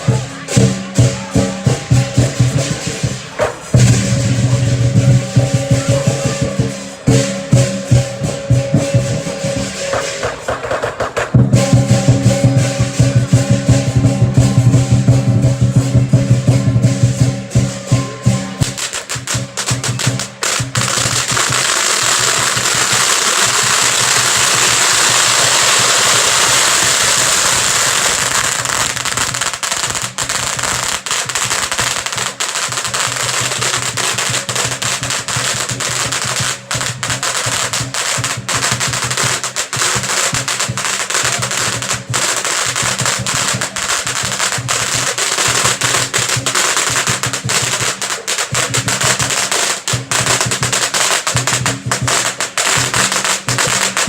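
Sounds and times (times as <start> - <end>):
firecrackers crackling: 0.0 - 54.0
lion-dance drumming: 0.0 - 54.0.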